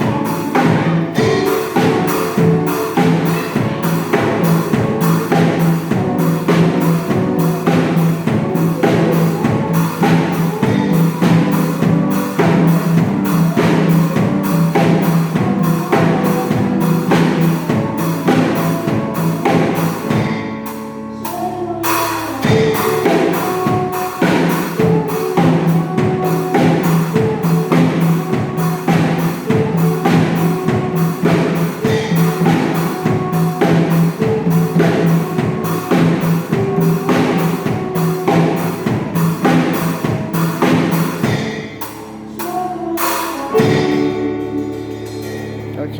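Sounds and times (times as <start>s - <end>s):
drum kit beat: 0.0s - 45.9s
pop-rock band playing: 0.0s - 45.9s.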